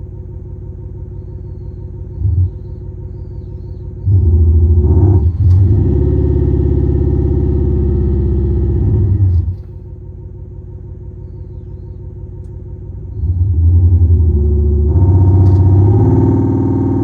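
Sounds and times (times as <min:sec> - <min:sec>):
simulated engine exhaust revving: 0:00.0 - 0:17.0.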